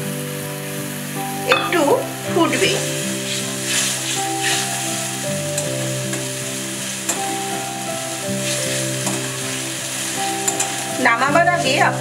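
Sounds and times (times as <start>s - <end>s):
broth boiling and sizzling: 0.0s - 12.0s
soft background music: 0.0s - 12.0s.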